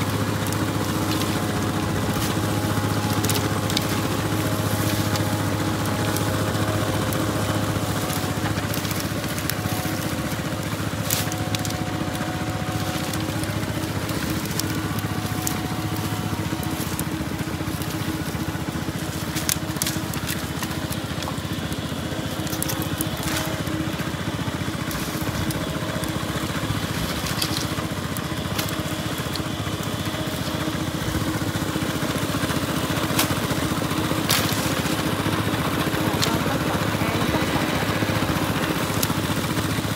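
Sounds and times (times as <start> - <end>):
dry branches crackling and snapping: 0.0 - 39.9
water pump engine droning: 0.0 - 39.9.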